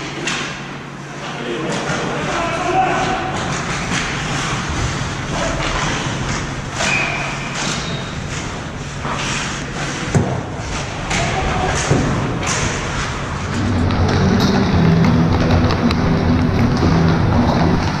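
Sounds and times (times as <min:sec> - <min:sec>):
low arena hum: 0:00.0 - 0:18.0
sticks and pucks clacking: 0:00.0 - 0:18.0
skate blades scraping ice: 0:02.2 - 0:18.0.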